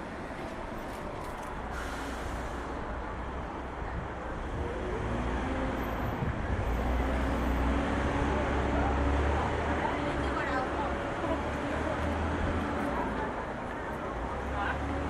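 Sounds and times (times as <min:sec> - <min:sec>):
passing road vehicles: 0:00.0 - 0:15.0.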